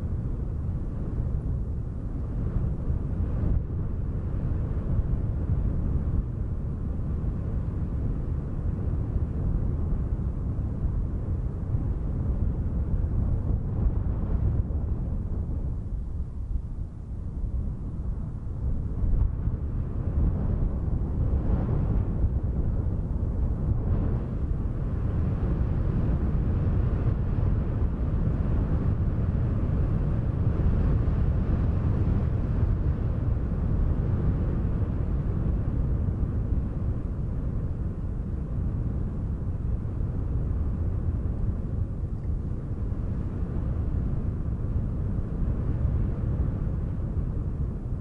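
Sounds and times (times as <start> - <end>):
low wind rumble: 0.0 - 48.0.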